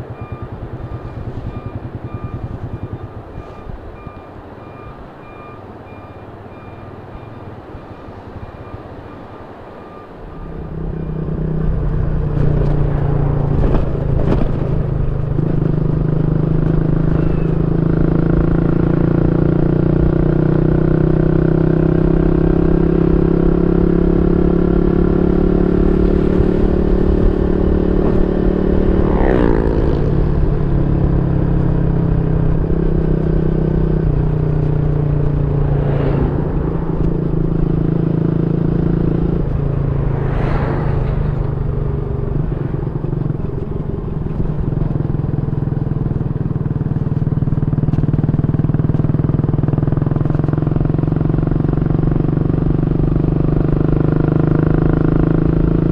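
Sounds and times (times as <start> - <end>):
motorcycle engine running: 0.0 - 4.6, 10.3 - 55.9
vehicles passing whoosh: 0.0 - 21.0, 21.7 - 55.9.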